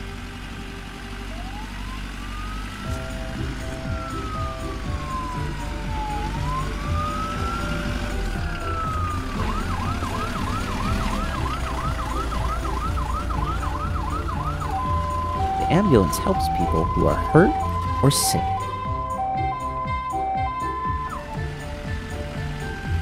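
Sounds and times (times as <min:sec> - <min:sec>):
cartoon ambulance siren: 0:01.2 - 0:23.0.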